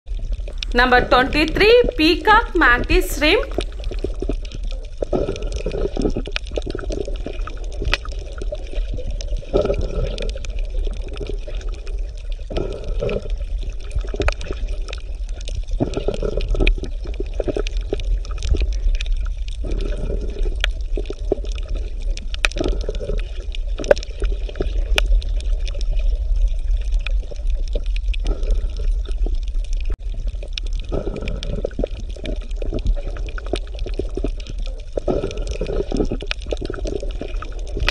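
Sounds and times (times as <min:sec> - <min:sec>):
deep underwater rumble: 0:00.1 - 0:00.9, 0:03.5 - 0:37.9
water bubbling and gurgling: 0:00.1 - 0:37.9.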